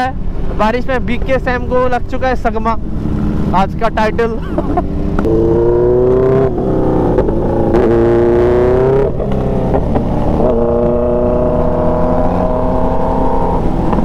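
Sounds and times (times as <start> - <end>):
motorcycle engine accelerating: 2.0 - 14.0.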